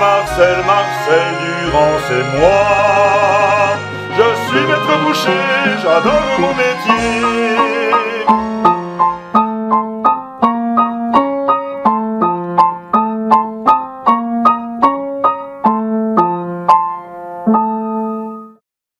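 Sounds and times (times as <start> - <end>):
piano playing chords: 0.0 - 18.6.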